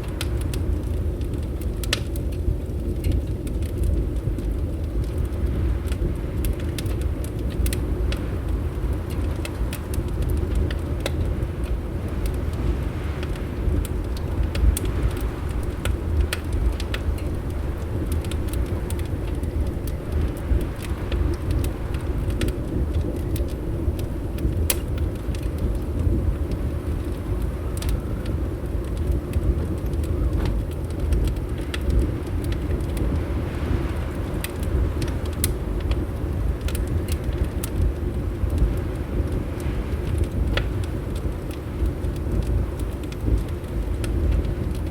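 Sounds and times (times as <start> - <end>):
wind against windows: 0.0 - 44.9
wood fire crackling: 0.0 - 44.9.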